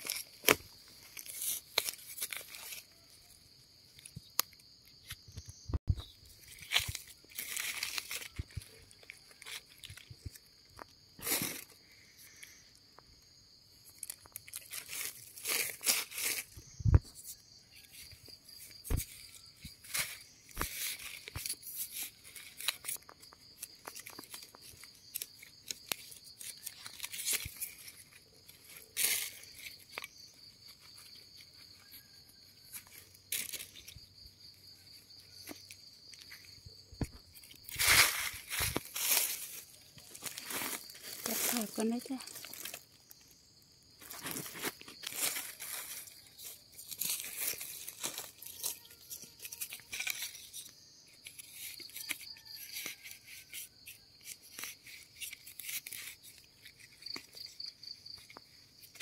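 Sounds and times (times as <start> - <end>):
dry leaves and soil rustling: 0.0 - 59.0
high insect trill: 0.0 - 59.0.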